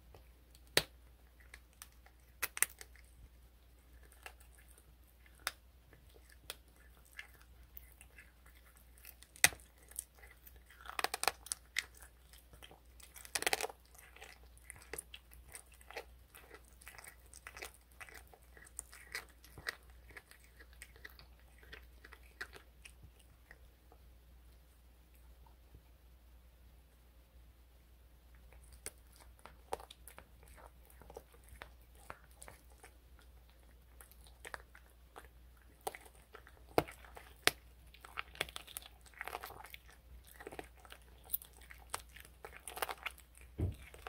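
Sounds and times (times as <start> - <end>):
cat crunching on bone: 0.1 - 24.0, 28.4 - 44.0.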